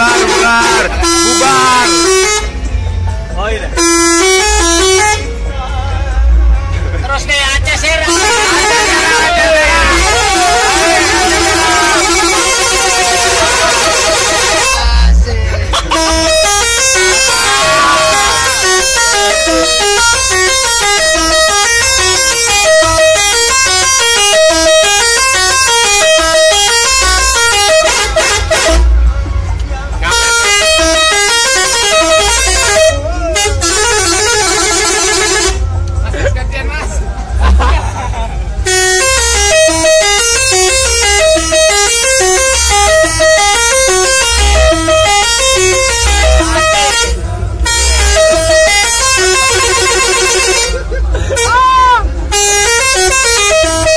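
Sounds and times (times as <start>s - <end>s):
bus musical air horn: 0.0s - 36.4s, 37.3s - 53.9s.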